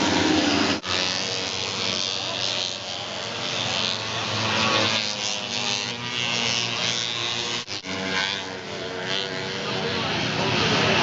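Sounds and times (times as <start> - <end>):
snowmobile engines buzzing: 0.0 - 11.0.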